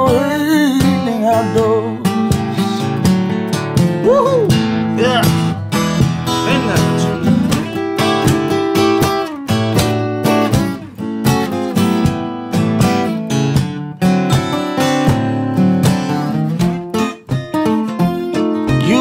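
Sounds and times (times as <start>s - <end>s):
acoustic guitars playing blues: 0.0s - 19.0s.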